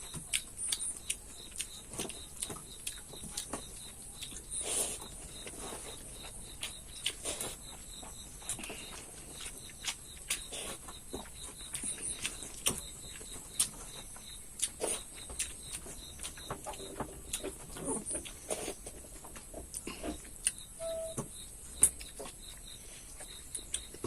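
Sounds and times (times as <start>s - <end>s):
chewing and lip smacks: 0.0s - 18.9s, 21.8s - 24.0s.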